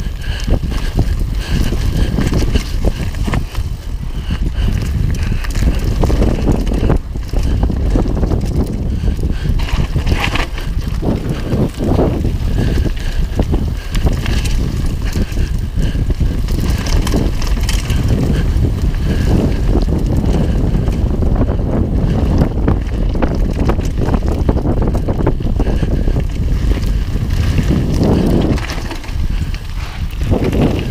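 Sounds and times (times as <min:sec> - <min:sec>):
bike rattling and knocking: 0:00.0 - 0:30.9
tyres rolling on gravel: 0:00.0 - 0:30.9
wind buffeting microphone: 0:00.0 - 0:30.9.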